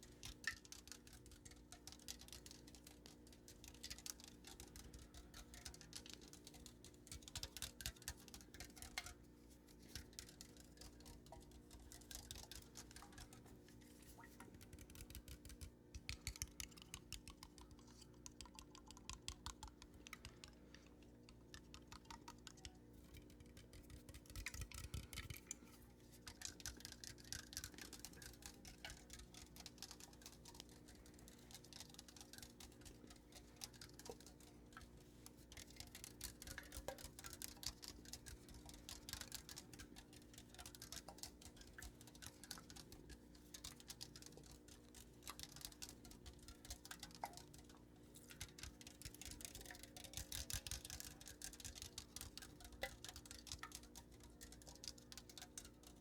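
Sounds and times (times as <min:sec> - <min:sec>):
faint steady hum: 0:00.0 - 0:56.0
soft rapid tapping: 0:00.0 - 0:56.0.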